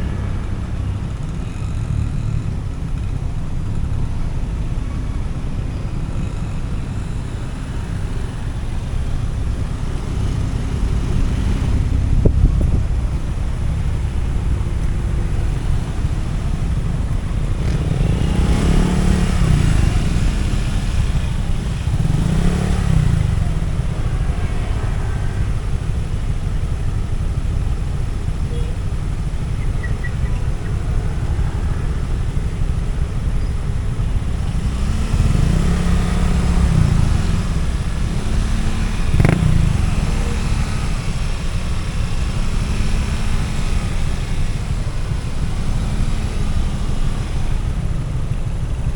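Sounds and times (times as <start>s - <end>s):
motorcycle engine revving: 0.0s - 48.9s
road and wind rumble: 0.0s - 48.9s.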